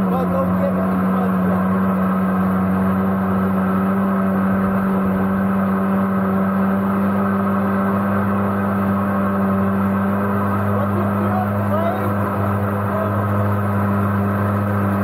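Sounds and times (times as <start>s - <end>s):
jet boat engine droning: 0.0s - 15.0s
rush of jet and water: 0.0s - 15.0s.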